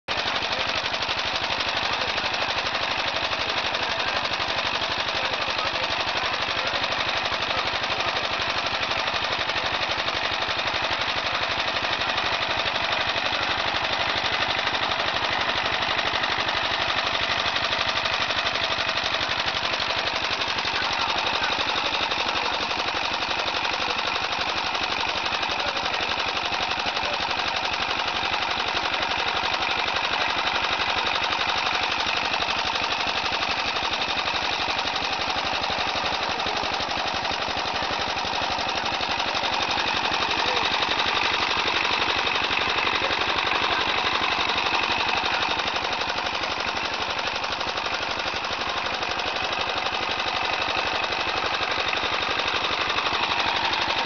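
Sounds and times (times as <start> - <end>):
machinery pulsing rhythmically: 0.1 - 54.0.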